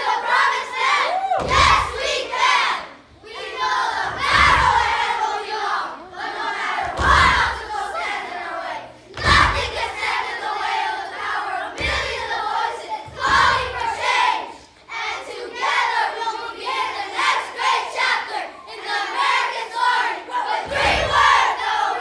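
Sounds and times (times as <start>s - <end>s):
children chanting in unison: 0.0s - 22.0s.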